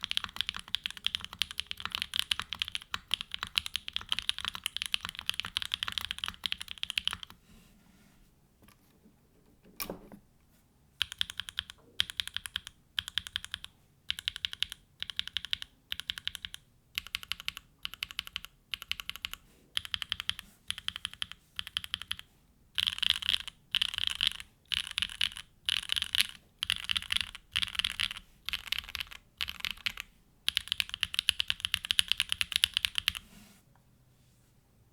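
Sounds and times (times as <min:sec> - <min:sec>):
mechanical keyboard typing: 0:00.0 - 0:07.4, 0:11.0 - 0:33.2.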